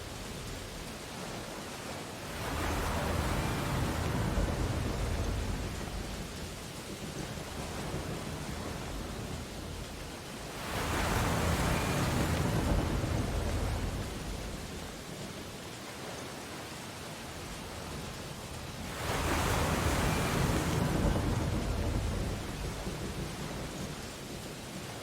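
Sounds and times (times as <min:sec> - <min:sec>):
ocean waves breaking on beach: 0:00.0 - 0:25.0.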